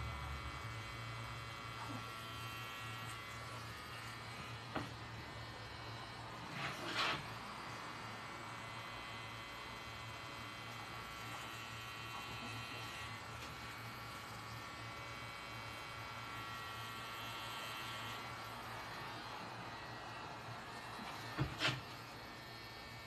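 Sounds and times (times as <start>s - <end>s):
tattoo machine buzzing: 0.0s - 23.0s.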